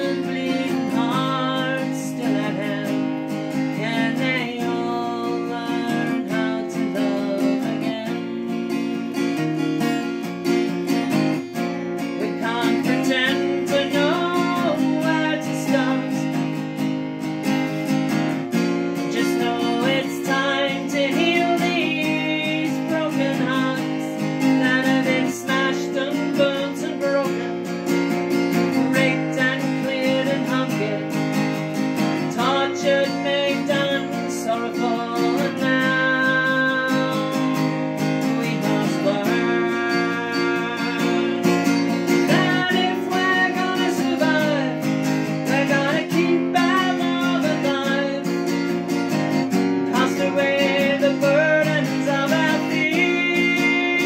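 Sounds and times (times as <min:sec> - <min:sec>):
woman singing: 0:00.0 - 0:09.9, 0:11.0 - 0:16.8, 0:18.4 - 0:54.0
acoustic guitar strumming: 0:00.0 - 0:54.0.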